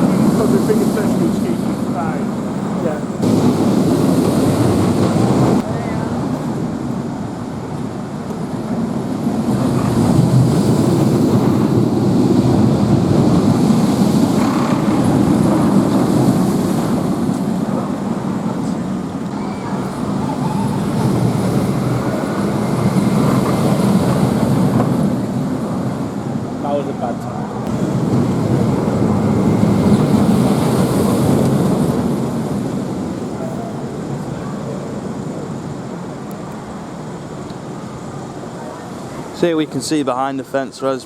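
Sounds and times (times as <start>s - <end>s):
roller coaster rumbling on track: 0.0s - 41.0s.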